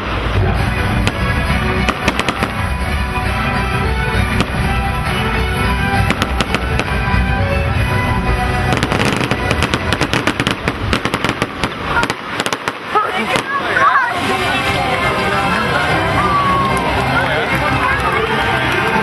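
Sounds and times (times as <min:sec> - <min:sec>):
fireworks bursting: 0:00.0 - 0:15.6
fireworks crackling: 0:00.0 - 0:19.0
music: 0:00.0 - 0:19.0.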